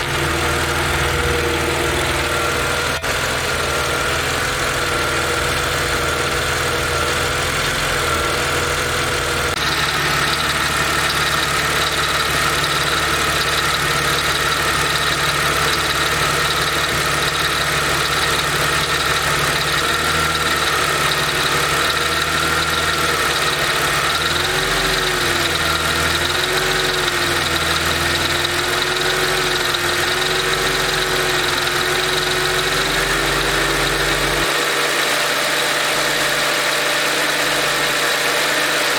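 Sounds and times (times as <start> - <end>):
car engine idling: 0.0 - 38.9
rhythmic engine rattle: 0.0 - 38.9.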